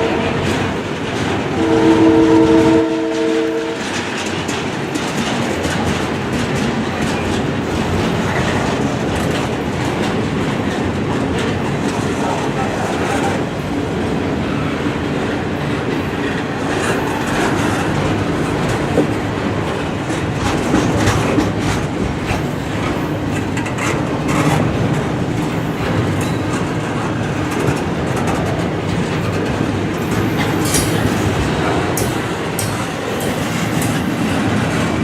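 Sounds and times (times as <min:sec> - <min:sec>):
freight train rumbling past: 0:00.0 - 0:35.0.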